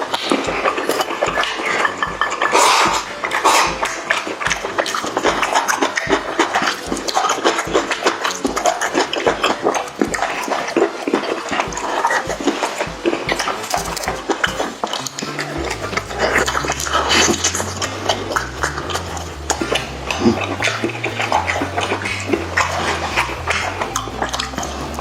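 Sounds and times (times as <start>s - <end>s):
close chewing and lip smacking: 0.0s - 25.0s.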